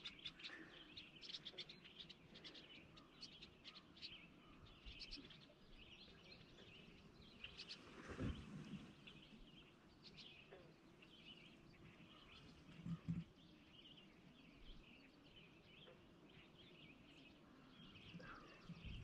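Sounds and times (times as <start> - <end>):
birds chirping and singing: 0.0 - 19.0.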